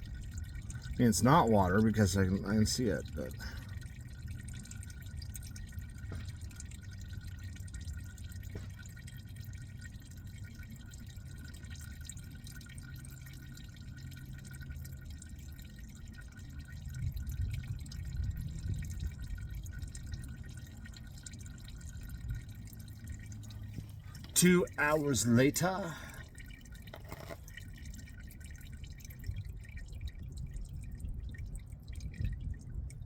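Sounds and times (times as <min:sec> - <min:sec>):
low background rumble: 0:00.0 - 0:33.0
oil dripping into a pan: 0:00.0 - 0:33.0.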